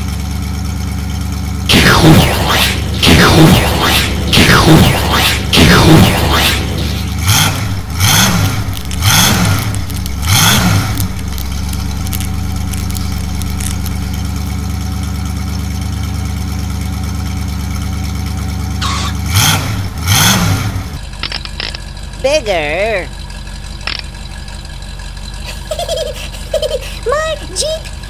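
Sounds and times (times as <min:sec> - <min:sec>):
engine revving: 0:00.0 - 0:28.0
monster truck engine idling: 0:00.0 - 0:28.0.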